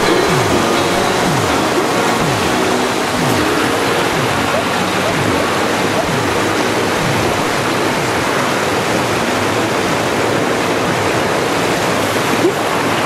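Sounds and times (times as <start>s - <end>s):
creek rushing over stones: 0.0s - 13.0s.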